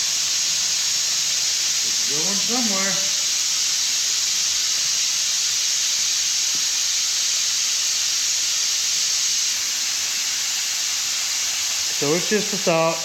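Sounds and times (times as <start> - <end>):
compressed air hissing: 0.0 - 13.0.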